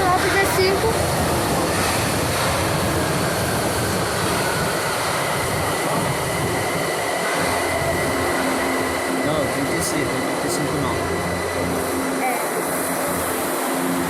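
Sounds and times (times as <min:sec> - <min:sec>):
high whine: 0:00.0 - 0:14.0
metro train rumbling on rails: 0:00.0 - 0:14.0.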